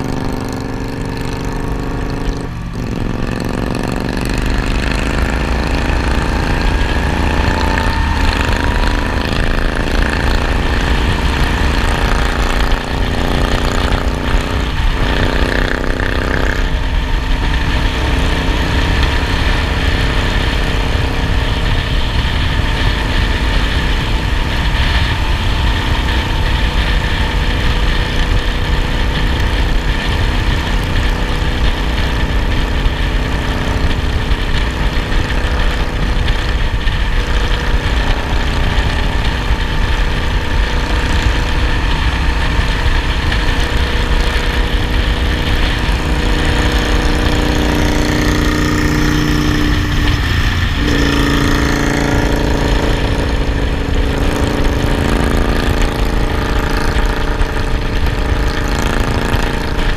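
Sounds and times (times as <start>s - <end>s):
motorcycle engine accelerating: 0.0s - 59.9s
wind rumble on microphone: 0.0s - 59.9s.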